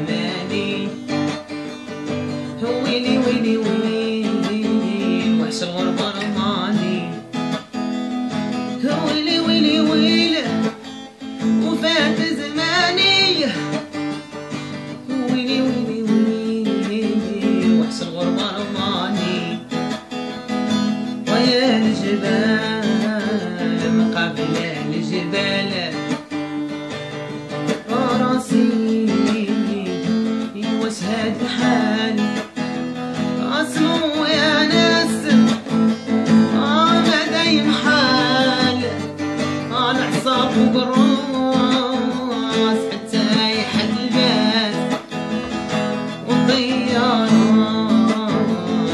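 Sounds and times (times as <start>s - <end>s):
acoustic guitar strumming: 0.0s - 48.9s
man singing: 0.0s - 48.9s.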